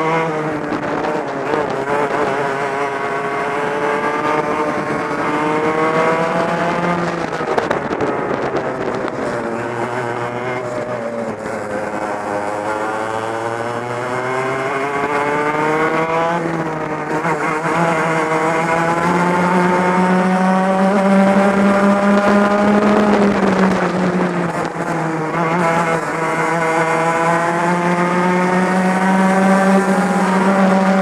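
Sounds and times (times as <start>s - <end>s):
kart engine high-revving: 0.0s - 31.0s.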